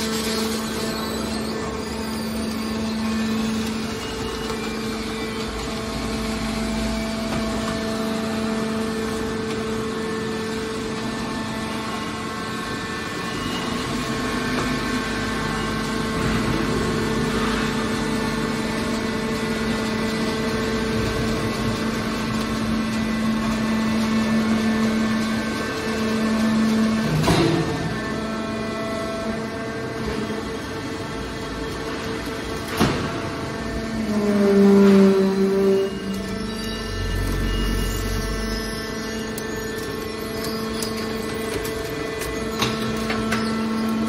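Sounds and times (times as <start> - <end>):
hydraulic power unit humming: 0.0 - 44.0.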